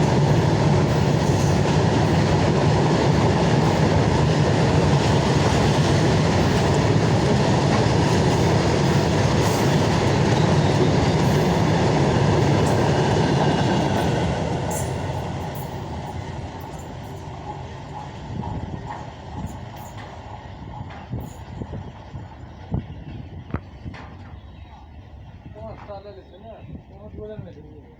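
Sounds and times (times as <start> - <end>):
freight train rumbling past: 0.0 - 27.9.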